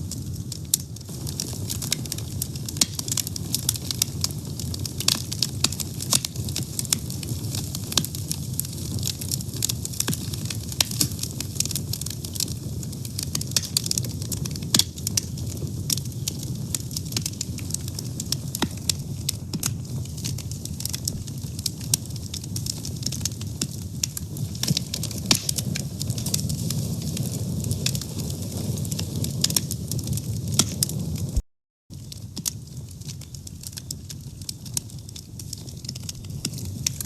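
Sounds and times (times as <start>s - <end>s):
fire crackling and popping: 0.0s - 37.0s.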